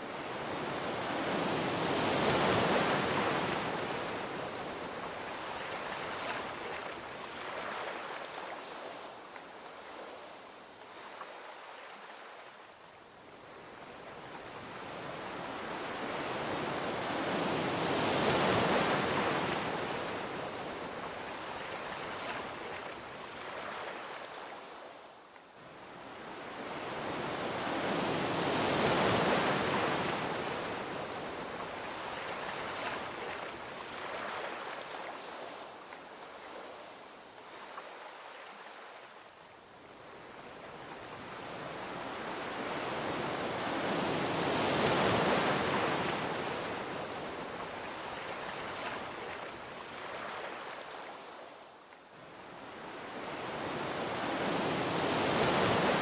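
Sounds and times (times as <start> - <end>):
ocean waves washing onto beach: 0.0 - 56.0.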